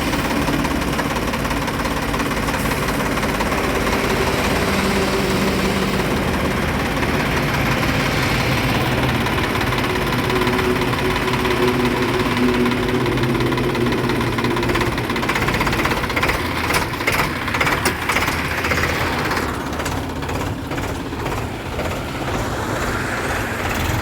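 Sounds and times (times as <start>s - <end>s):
diesel tractor engine clattering: 0.0s - 24.0s.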